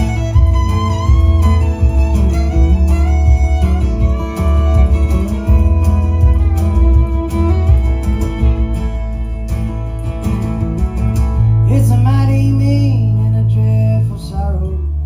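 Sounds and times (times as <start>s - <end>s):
lead melody with sliding notes: 0.0s - 15.0s
steady bass: 0.0s - 15.0s
strummed acoustic guitar: 0.0s - 15.0s.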